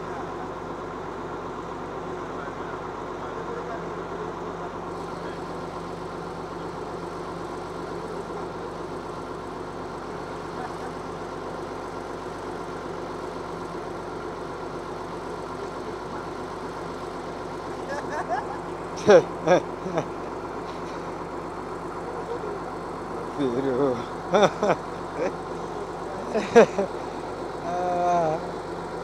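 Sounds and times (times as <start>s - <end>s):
bulldozer diesel engine idling: 0.0s - 29.0s.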